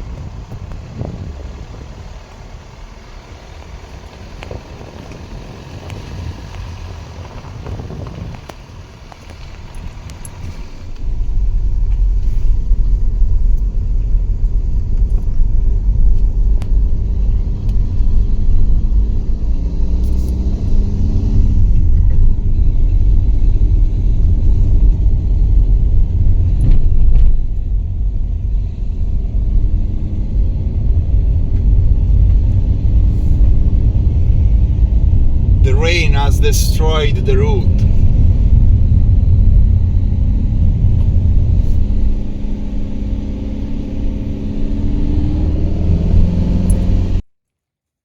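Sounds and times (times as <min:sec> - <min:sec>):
car engine and road noise: 0:00.0 - 0:47.2.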